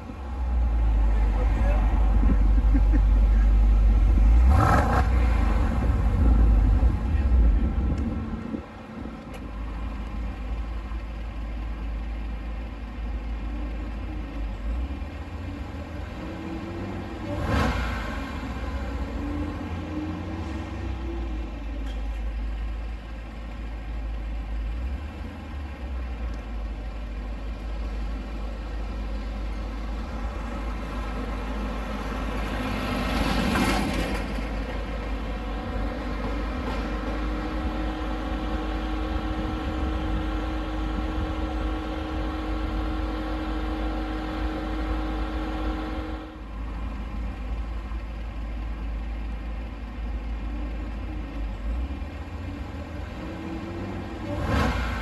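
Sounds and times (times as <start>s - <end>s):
vehicle engine idling: 0.0s - 33.5s, 34.1s - 55.0s.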